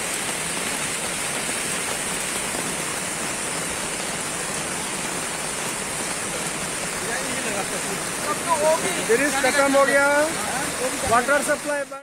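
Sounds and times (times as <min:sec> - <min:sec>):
river rushing in flood: 0:00.0 - 0:12.0.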